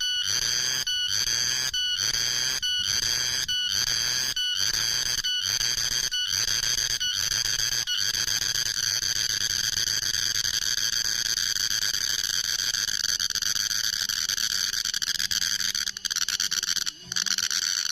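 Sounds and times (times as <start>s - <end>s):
cicadas buzzing: 0.0s - 17.9s.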